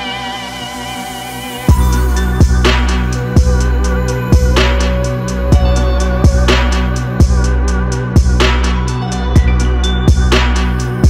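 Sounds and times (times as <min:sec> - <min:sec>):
electronic music with bass: 0:00.0 - 0:11.0
slow punchy drum beat: 0:01.7 - 0:11.0.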